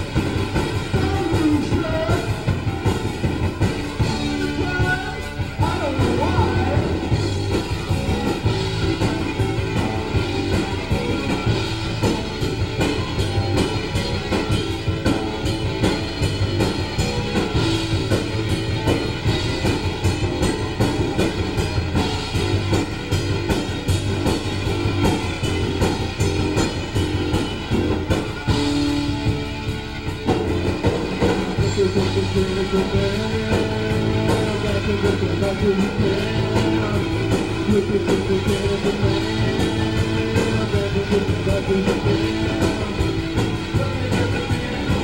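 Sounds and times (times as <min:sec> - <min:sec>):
drum kit driving beat: 0:00.0 - 0:45.0
rock band playing live: 0:00.0 - 0:45.0.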